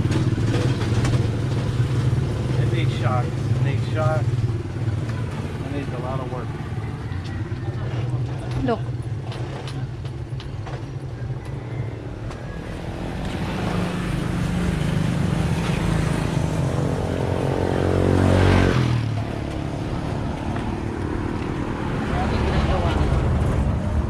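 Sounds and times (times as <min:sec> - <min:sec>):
motor vehicle passing by: 0:00.0 - 0:24.0.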